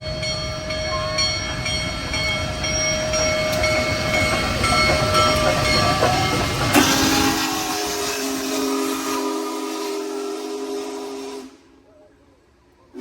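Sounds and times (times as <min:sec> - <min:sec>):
steam train rumbling past: 0:00.0 - 0:13.0.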